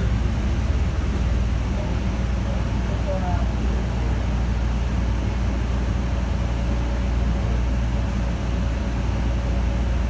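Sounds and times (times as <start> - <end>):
bus engine rumble: 0.0 - 10.0.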